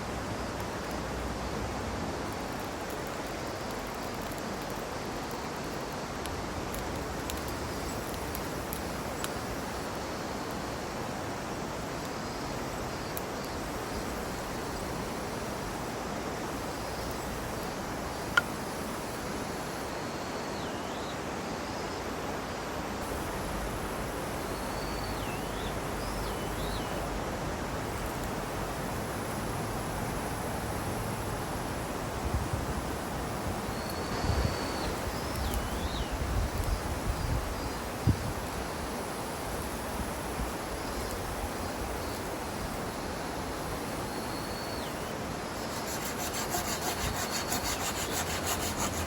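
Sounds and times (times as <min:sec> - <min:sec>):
rushing outdoor noise: 0:00.0 - 0:49.0.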